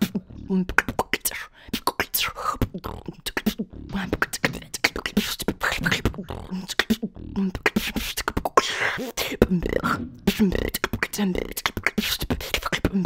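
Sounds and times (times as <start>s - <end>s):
woman beatboxing: 0.0s - 13.0s.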